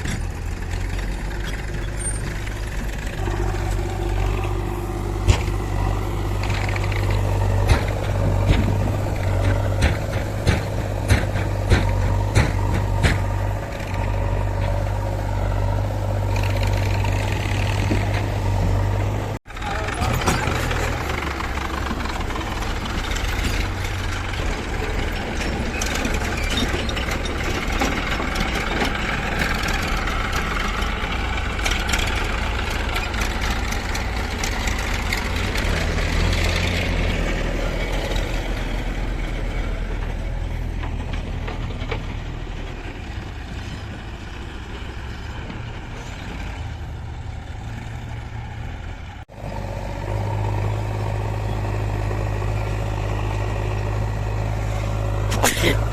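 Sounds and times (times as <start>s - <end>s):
backhoe loading mud: 0.0s - 55.9s
diesel engines running: 0.0s - 55.9s.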